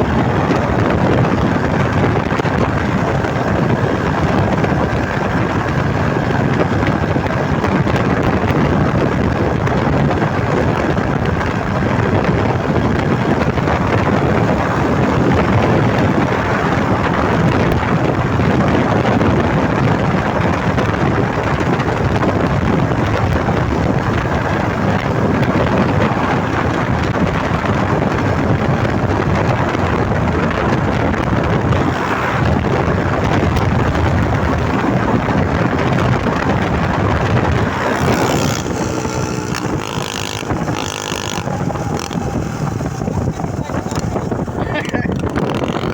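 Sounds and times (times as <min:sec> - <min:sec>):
loud exhaust engine running: 0:00.0 - 0:45.9
wind buffeting microphone: 0:00.0 - 0:45.9.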